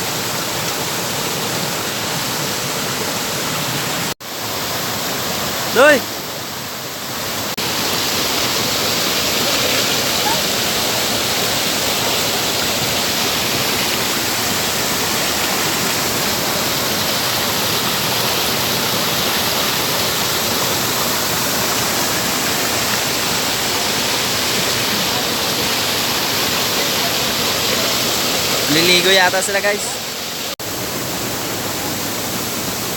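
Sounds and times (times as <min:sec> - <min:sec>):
waterfall crashing: 0:00.0 - 0:32.9.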